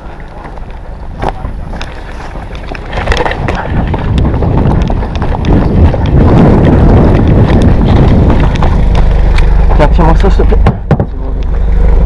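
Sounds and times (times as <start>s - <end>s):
running footsteps on gravel: 0.0s - 10.9s
wind buffeting microphone: 0.0s - 11.1s
jeep engine rumble: 0.0s - 12.0s.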